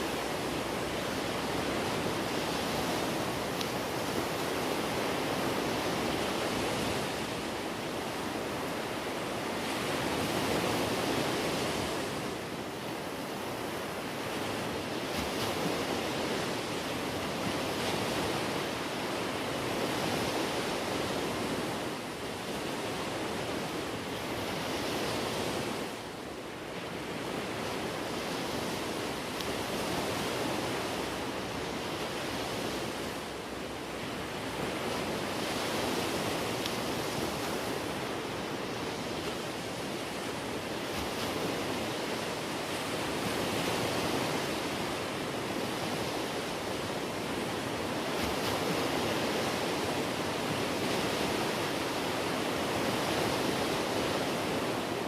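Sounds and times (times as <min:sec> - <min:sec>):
ocean waves rushing: 0:00.0 - 0:55.0
wind: 0:00.0 - 0:55.0.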